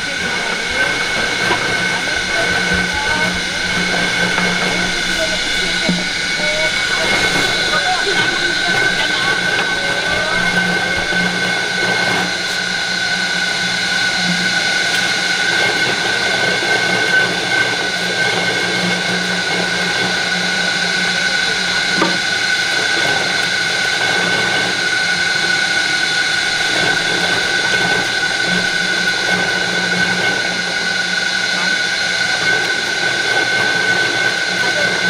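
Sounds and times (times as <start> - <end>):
high whine: 0.0 - 32.3
juicing machine motor hum: 0.0 - 35.0.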